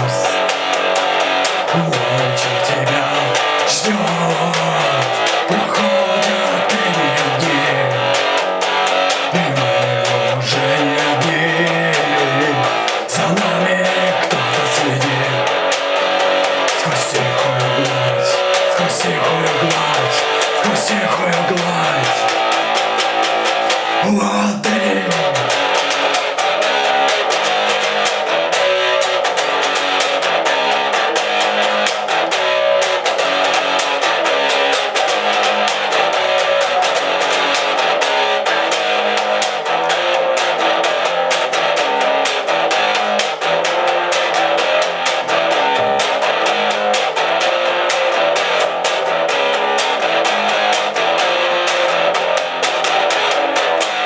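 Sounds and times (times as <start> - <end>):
bass guitar: 0.0 - 54.0
distorted electric guitar: 0.0 - 54.0
drums playing a beat: 0.0 - 54.0.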